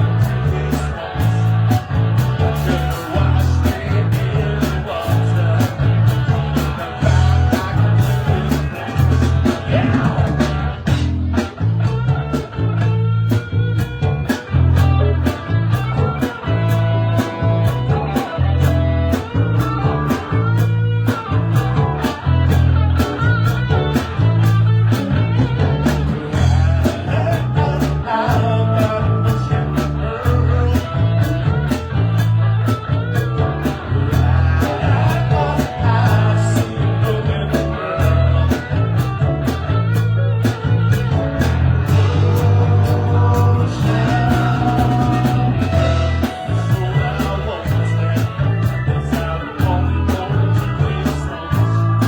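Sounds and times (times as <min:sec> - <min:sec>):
live blues-rock band: 0:00.0 - 0:52.0.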